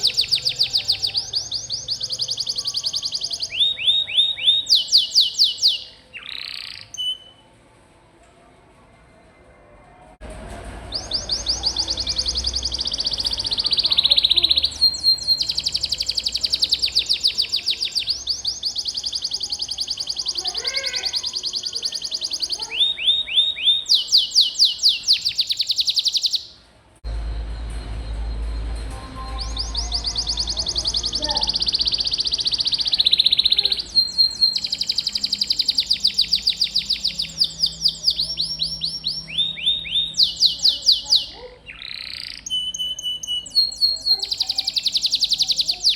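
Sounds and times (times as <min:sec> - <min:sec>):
canary singing trills: 0:00.0 - 0:07.4, 0:10.8 - 0:26.6, 0:29.1 - 0:45.9.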